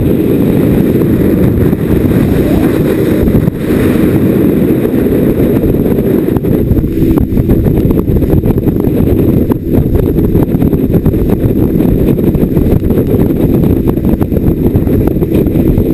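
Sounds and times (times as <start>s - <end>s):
boat running noise: 0.0s - 15.9s
wind rumble on microphone: 0.0s - 15.9s.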